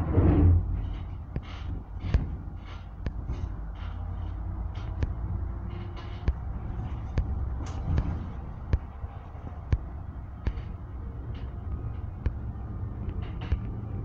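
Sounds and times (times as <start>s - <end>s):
bus diesel engine rumble: 0.0s - 14.0s
sharp knocks and rattles: 0.0s - 14.0s.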